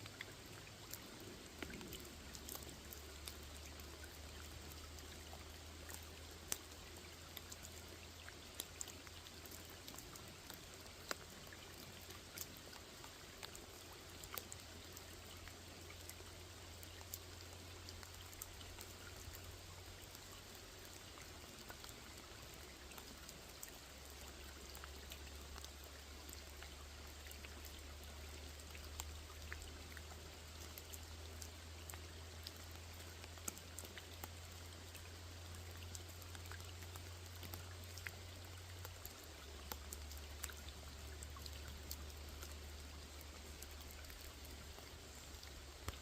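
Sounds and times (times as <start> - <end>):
rain falling on pond: 0.0 - 46.0.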